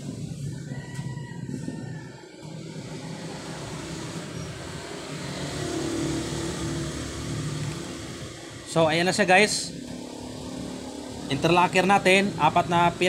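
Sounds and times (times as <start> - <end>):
vehicle engine passing: 1.6 - 13.0.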